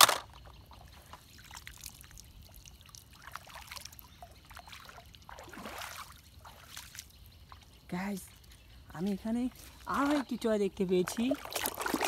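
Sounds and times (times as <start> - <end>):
faint water trickle: 0.4 - 12.0.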